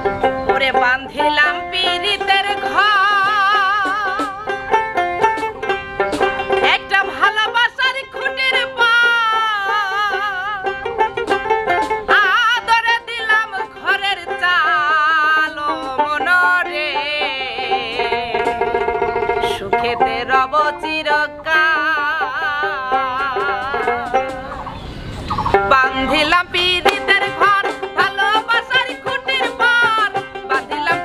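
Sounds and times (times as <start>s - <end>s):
plucked lute: 0.0s - 31.0s
woman singing with vibrato: 0.4s - 4.8s, 6.4s - 10.9s, 11.8s - 24.5s, 25.5s - 31.0s.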